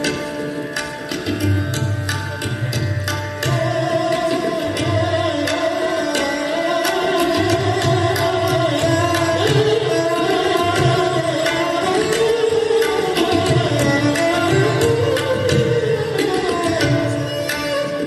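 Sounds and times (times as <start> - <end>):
bowed string melody: 0.0 - 18.0
tabla strokes: 0.0 - 18.0.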